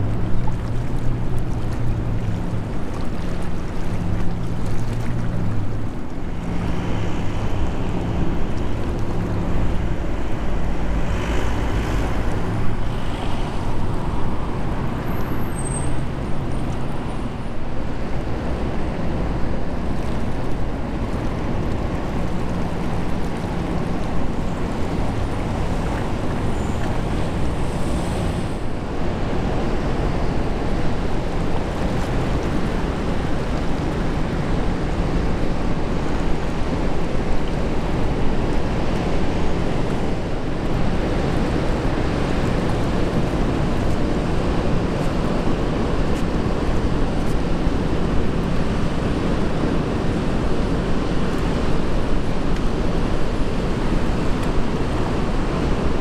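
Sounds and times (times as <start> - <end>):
sea wash: 0.0 - 56.0
ship hum: 0.0 - 56.0
water rushing along a bow: 0.0 - 56.0.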